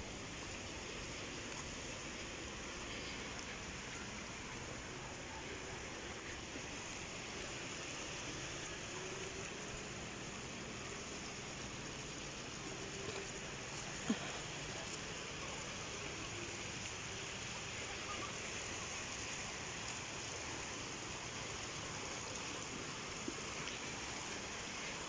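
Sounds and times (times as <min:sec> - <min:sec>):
small waves washing along shore: 0:00.0 - 0:25.0.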